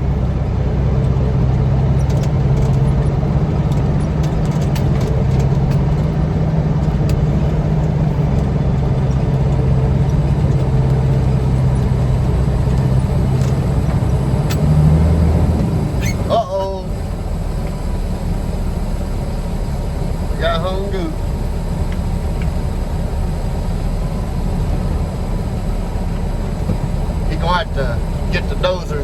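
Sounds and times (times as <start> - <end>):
truck diesel engine under load: 0.0 - 29.0.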